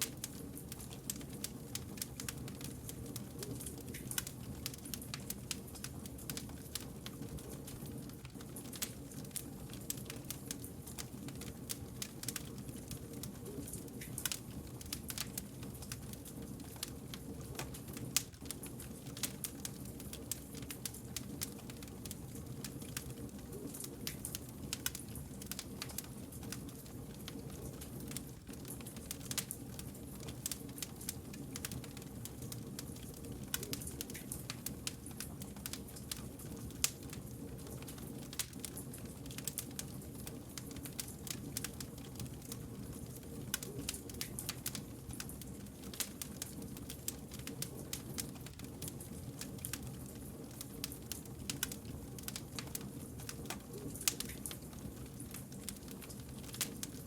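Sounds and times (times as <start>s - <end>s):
low hum of burning logs: 0.0s - 57.0s
wood fire crackling: 0.0s - 57.0s.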